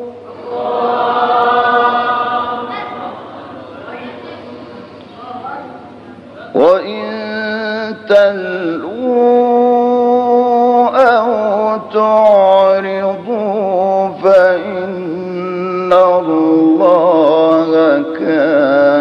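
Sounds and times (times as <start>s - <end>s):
person chanting recitation: 0.0s - 4.2s, 6.5s - 19.0s.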